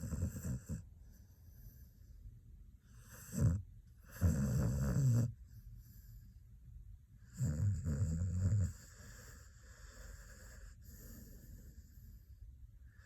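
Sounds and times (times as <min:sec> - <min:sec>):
dog snoring: 0:00.0 - 0:01.9, 0:02.9 - 0:06.1, 0:07.2 - 0:13.0.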